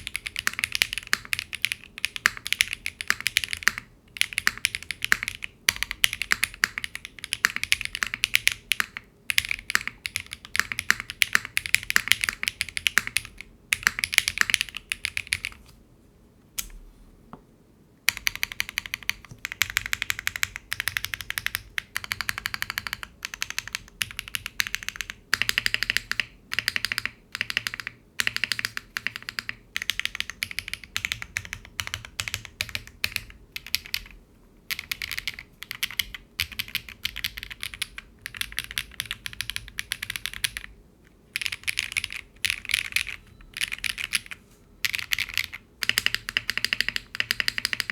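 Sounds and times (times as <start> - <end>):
mechanical keyboard typing: 0.0 - 15.6, 18.1 - 47.9.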